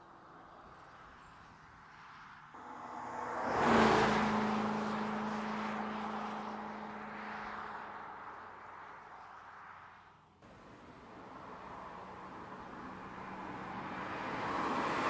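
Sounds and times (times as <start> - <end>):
car driving past at speed: 2.6 - 15.0.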